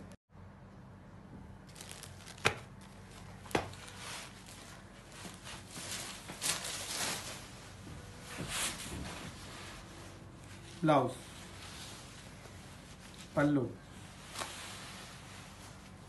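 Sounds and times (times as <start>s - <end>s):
silk fabric rustling: 1.7s - 16.0s.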